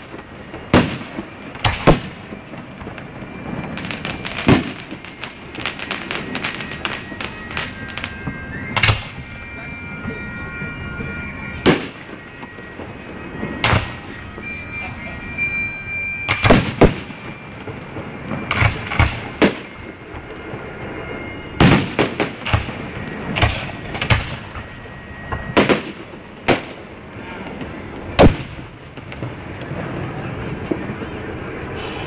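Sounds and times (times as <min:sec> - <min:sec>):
echoing rumble: 0:00.0 - 0:32.0
fireworks bangs: 0:00.0 - 0:32.0.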